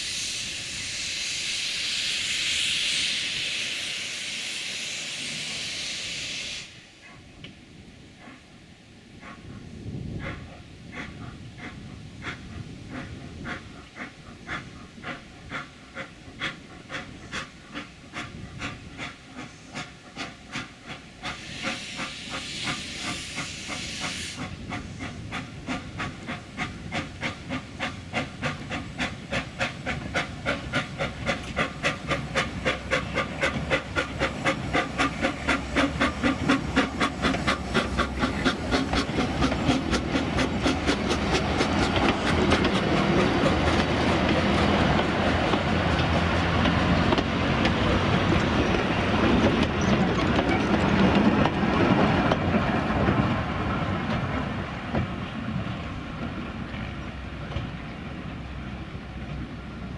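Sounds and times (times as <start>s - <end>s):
steam hissing: 0.0s - 7.0s, 8.2s - 59.9s
steam locomotive exhaust chuffs: 0.0s - 7.0s, 9.1s - 59.9s.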